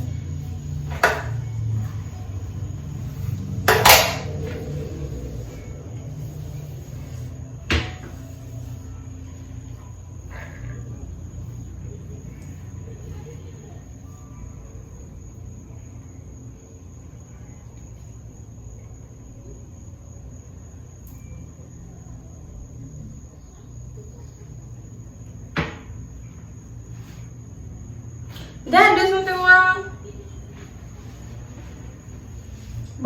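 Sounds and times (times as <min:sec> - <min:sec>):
faint high whine: 0:00.0 - 0:33.0
low background hum: 0:00.0 - 0:33.0.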